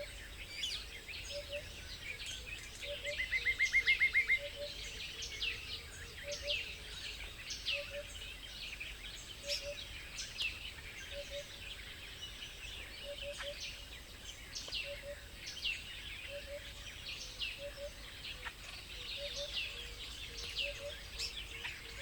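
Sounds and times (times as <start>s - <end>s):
wild birds chirping: 0.0s - 22.0s.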